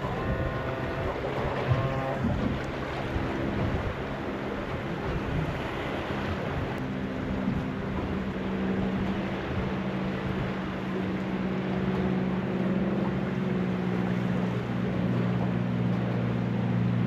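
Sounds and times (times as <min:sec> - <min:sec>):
boat motor running: 0:00.0 - 0:17.0
wind and water rushing: 0:00.0 - 0:17.0.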